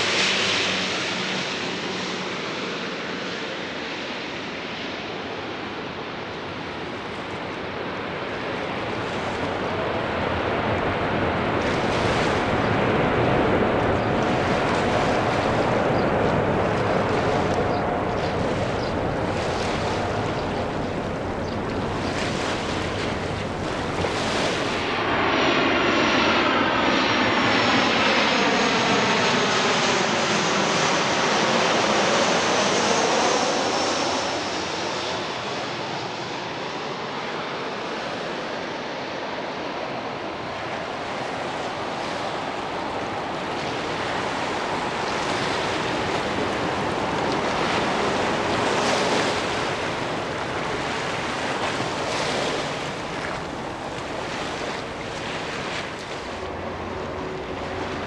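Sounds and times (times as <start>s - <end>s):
high-pitched jet fan whine: 0.0s - 38.7s, 39.9s - 58.0s
jet engines roaring on landing: 0.0s - 58.0s
jet passing low overhead: 0.0s - 58.0s.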